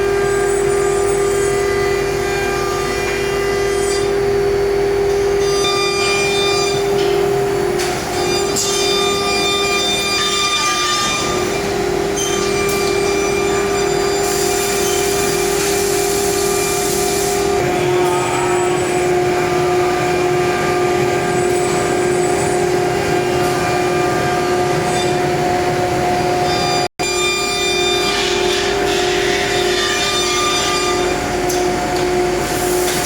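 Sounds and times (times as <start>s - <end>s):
cnc router spindle whine: 0.0s - 33.0s.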